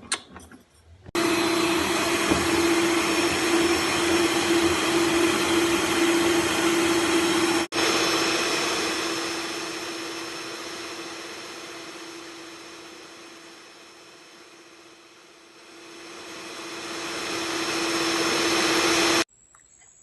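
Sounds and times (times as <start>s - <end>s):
electric mixer motor whining: 1.2s - 19.3s.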